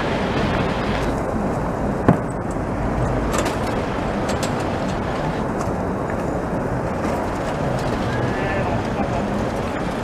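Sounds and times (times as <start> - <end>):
tram rolling along track: 0.0 - 10.0.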